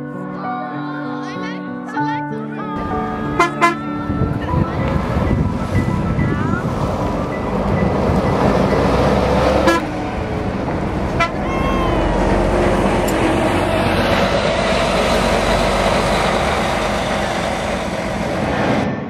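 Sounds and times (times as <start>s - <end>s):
coach engine rumble: 2.8s - 19.0s.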